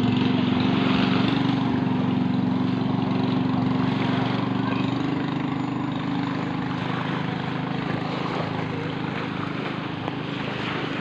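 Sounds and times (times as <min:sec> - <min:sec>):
racing boat engine drone: 0:00.0 - 0:11.0.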